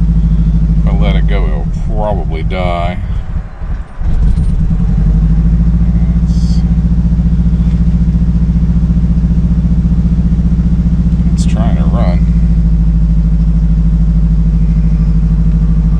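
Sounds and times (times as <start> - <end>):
car engine running rough: 0.0 - 15.9.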